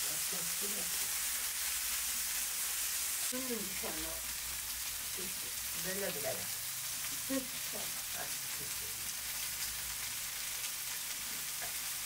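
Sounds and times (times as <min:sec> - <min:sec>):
food sizzling on a pan: 0:00.0 - 0:12.0.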